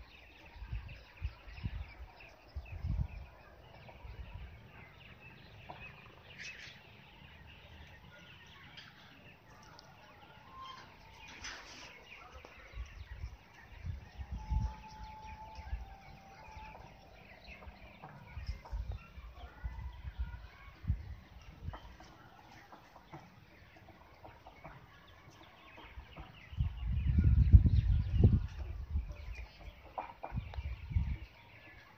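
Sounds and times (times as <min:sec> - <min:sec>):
peafowl calls and clucks: 0:00.0 - 0:31.9.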